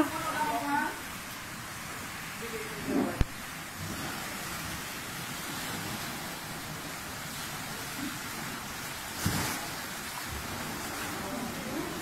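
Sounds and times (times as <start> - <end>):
pool water sloshing and spilling: 0.0 - 12.0.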